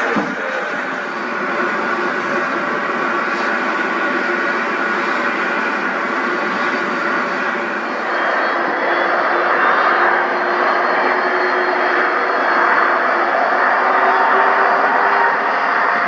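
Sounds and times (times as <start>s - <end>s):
jet engine whine: 0.0s - 16.0s
jet engines roaring: 0.0s - 16.0s.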